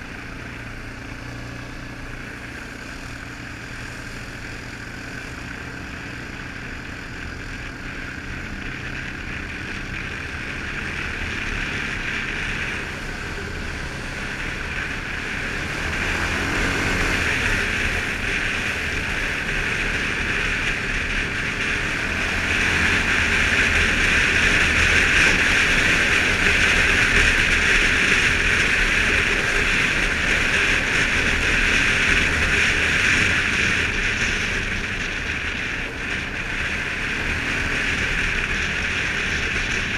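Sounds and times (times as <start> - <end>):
quad bike engine: 0.0 - 39.9
wind and road noise: 0.0 - 39.9.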